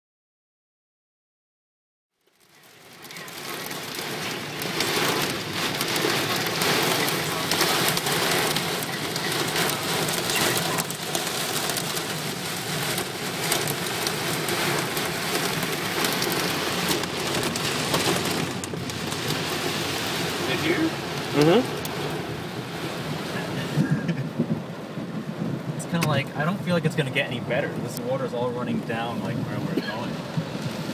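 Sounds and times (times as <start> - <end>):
raindrops striking near microphone: 2.1 - 30.9
steady rain falling: 2.2 - 30.9.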